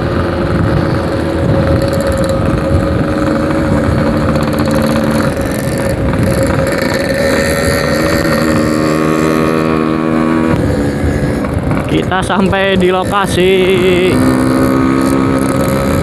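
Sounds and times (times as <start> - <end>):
two-stroke motorcycle engine: 0.0 - 16.0
wind rumble: 0.0 - 16.0.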